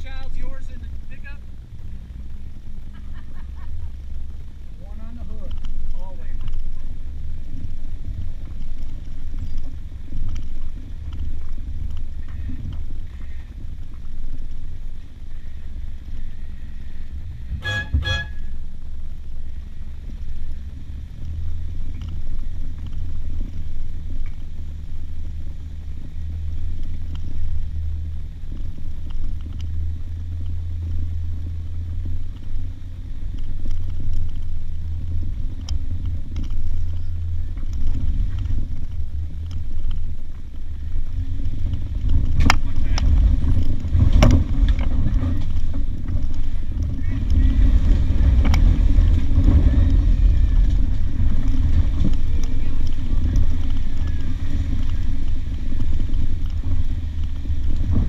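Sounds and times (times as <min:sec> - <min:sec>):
off-road vehicle engine rumbling: 0:00.0 - 0:58.0.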